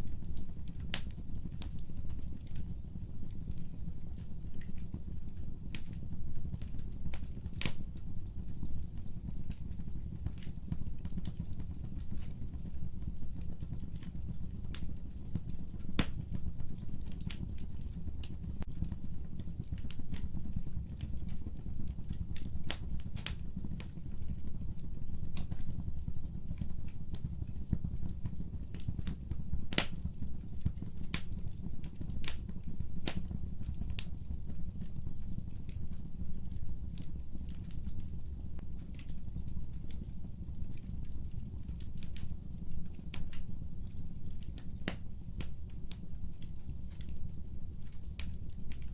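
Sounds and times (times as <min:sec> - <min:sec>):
fire pops and crackles: 0:00.0 - 0:48.9
fire rumbling: 0:00.0 - 0:48.9.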